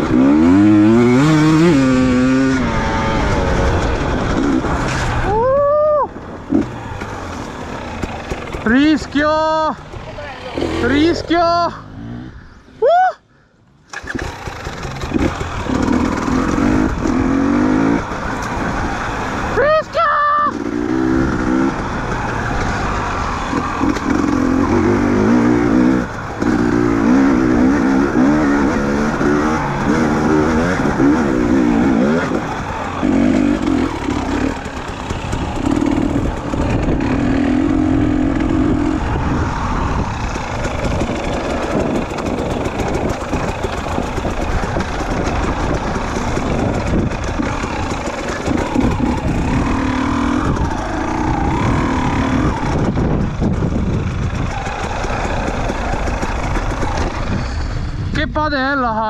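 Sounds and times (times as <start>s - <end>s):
motorcycle engine revving: 0.0s - 12.6s, 13.8s - 58.3s.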